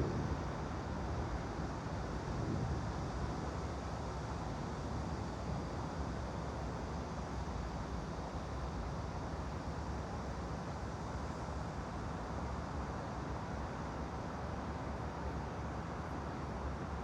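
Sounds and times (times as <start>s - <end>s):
rumbling white noise hiss: 0.0s - 17.0s.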